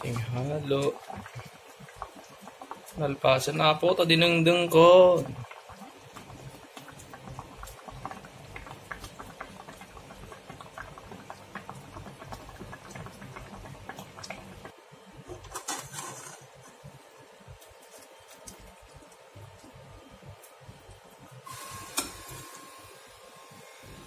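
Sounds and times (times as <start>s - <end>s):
soup bubbling at a rolling boil: 0.0s - 24.0s.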